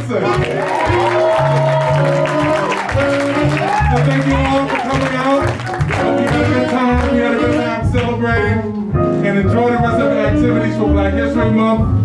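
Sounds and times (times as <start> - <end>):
bass line: 0.0 - 12.0
jazz band playing blues: 0.0 - 12.0.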